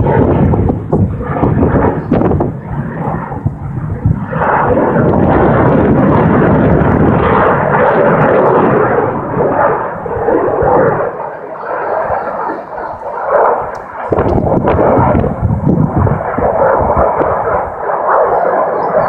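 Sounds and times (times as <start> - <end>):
fighter jet flying past: 0.0 - 19.0.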